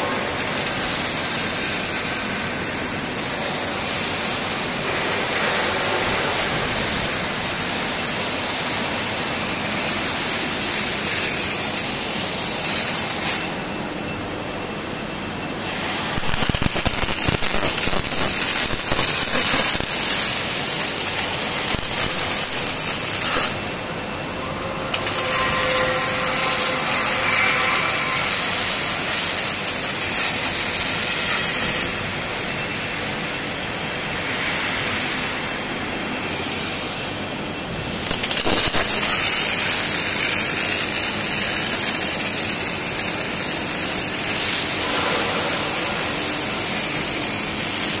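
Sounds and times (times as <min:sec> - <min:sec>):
arc welding crackling: 0:00.0 - 0:48.0.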